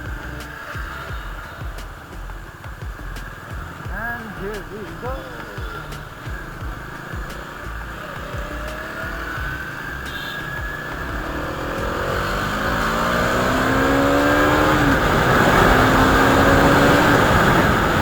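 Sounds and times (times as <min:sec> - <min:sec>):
motorcycle engine accelerating: 0:00.0 - 0:18.0
wind noise on microphone: 0:00.0 - 0:18.0.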